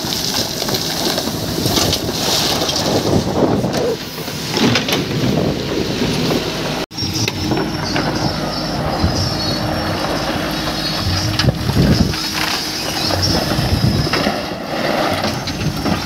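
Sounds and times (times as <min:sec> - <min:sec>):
backhoe diesel engine running: 0:00.0 - 0:16.0
bucket working in rocky stream: 0:00.0 - 0:16.0
wind on microphone: 0:01.3 - 0:06.8, 0:07.5 - 0:16.0.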